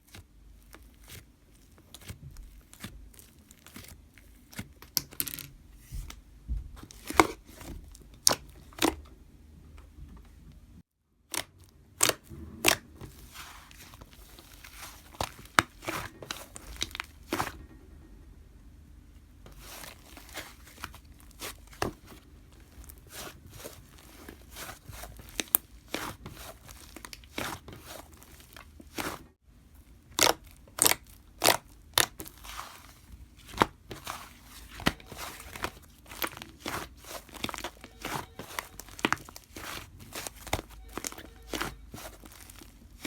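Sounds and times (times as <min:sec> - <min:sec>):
slime squished and stretched: 0:00.0 - 0:05.2, 0:06.8 - 0:09.0, 0:11.2 - 0:17.6, 0:19.5 - 0:43.0.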